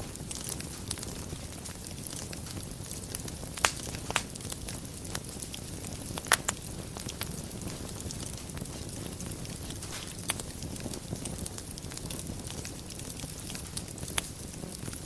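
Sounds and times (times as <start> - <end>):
fire crackles and pops: 0.0 - 15.0
fire low rumble: 0.0 - 15.0.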